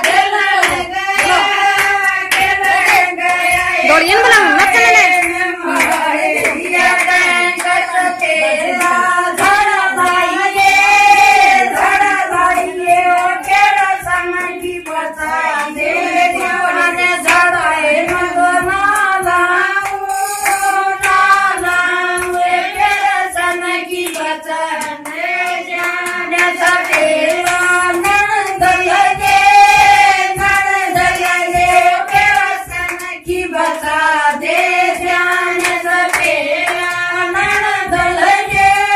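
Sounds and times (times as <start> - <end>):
rhythmic hand clapping: 0.0 - 38.9
women singing in unison: 0.0 - 38.9.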